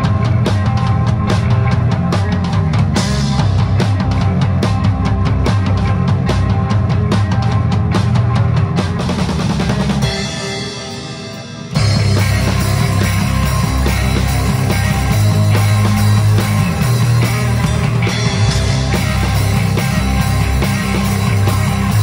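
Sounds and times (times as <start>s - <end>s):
bass guitar: 0.0s - 22.0s
drum kit beat: 0.0s - 22.0s
electric guitar: 0.0s - 22.0s.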